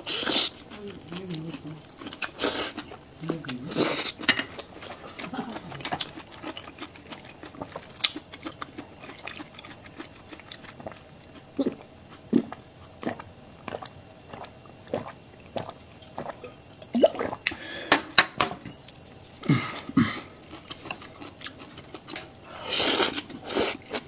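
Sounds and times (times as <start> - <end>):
person chewing food: 0.0 - 17.6, 19.4 - 24.0.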